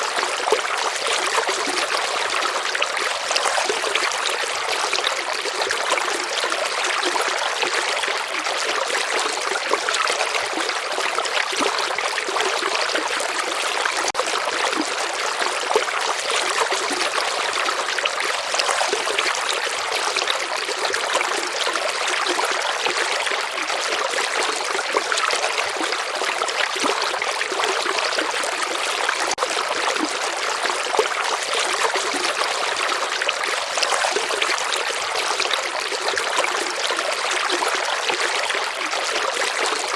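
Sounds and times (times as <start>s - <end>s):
water rushing in a stream: 0.0s - 39.9s.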